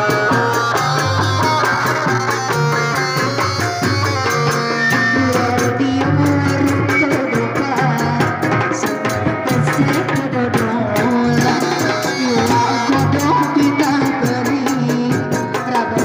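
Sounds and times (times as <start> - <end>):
hand drum strokes: 0.0 - 16.0.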